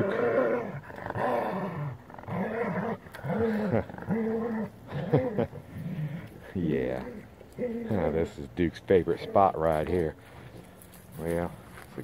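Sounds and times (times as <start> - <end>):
dogs growling: 0.0 - 9.8.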